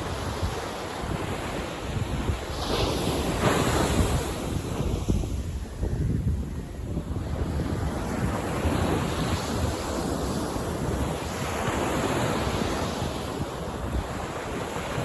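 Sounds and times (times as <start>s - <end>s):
waves washing onto beach: 0.0s - 15.0s
wind rumble on microphone: 0.0s - 15.0s.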